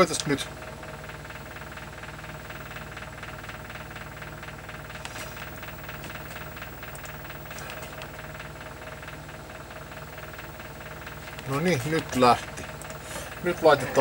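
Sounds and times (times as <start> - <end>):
low hum: 0.0 - 14.0
machinery rattling pulse: 0.0 - 14.0.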